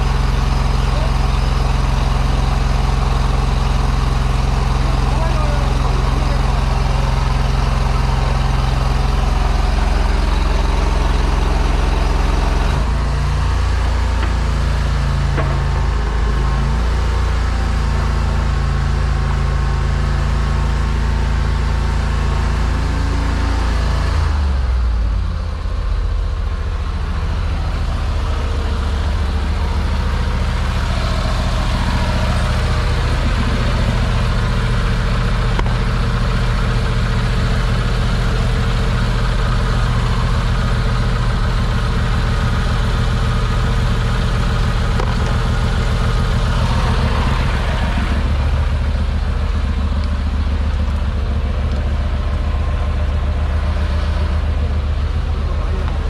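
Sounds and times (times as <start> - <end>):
drain jetter engine running: 0.0 - 56.0.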